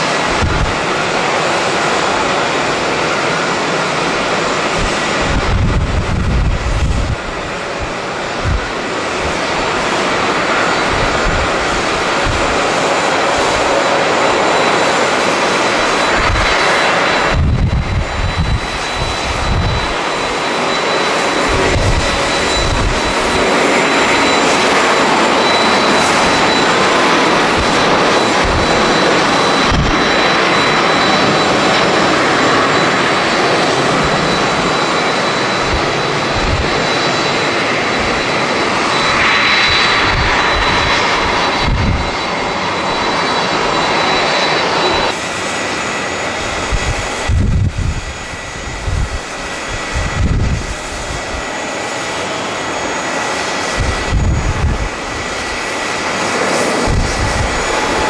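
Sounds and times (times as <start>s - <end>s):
wind buffeting microphone: 0.0s - 3.4s, 4.0s - 58.0s
jet engines roaring: 0.0s - 58.0s.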